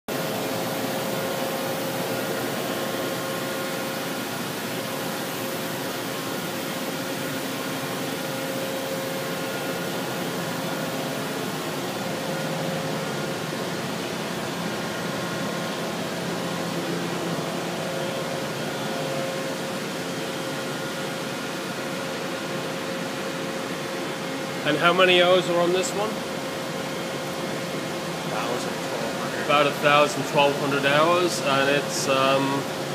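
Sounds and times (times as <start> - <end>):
machine hum and hiss: 0.1 - 32.9.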